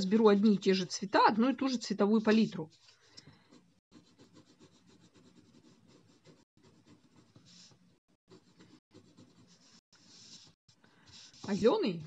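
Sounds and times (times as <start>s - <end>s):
pencil scratching on paper: 0.8s - 12.0s.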